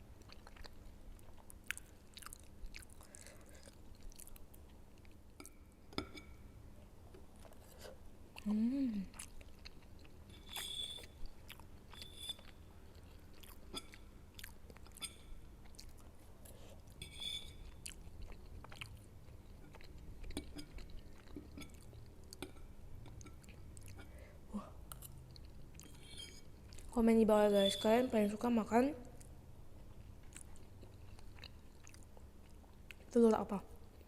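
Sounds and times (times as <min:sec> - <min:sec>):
close chewing of soft food: 0:00.0 - 0:05.8, 0:06.7 - 0:27.0, 0:29.1 - 0:33.2, 0:33.8 - 0:34.0.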